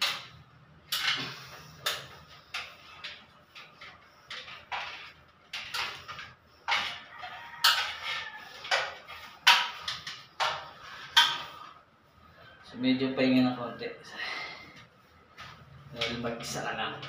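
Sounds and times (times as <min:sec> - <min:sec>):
wire scraping and squeaking: 0:00.0 - 0:17.0.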